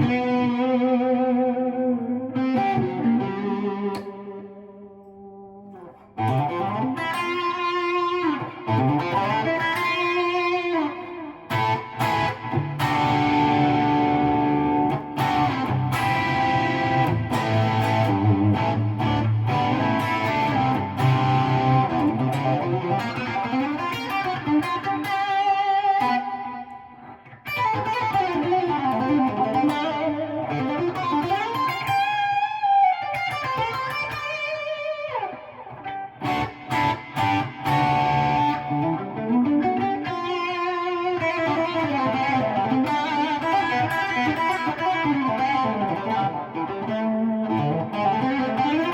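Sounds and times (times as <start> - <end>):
overdriven electric guitar: 0.0 - 48.9.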